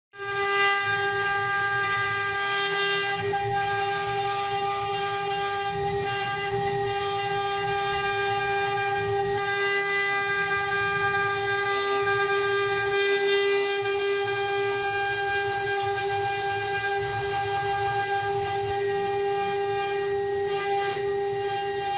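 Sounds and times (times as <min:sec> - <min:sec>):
low rumble of wood cutting: 0:00.2 - 0:21.9
router spindle high whine: 0:00.2 - 0:21.9.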